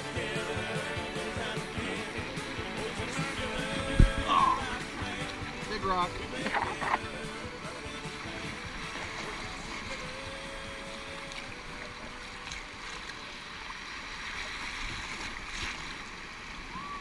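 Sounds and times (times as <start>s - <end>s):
river rushing over rocks: 0.0s - 17.0s
sharp water splashes: 1.2s - 16.9s.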